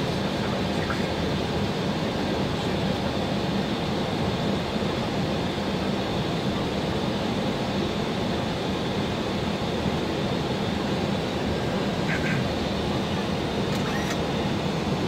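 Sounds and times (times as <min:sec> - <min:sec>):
rush of air in cockpit: 0:00.0 - 0:15.0.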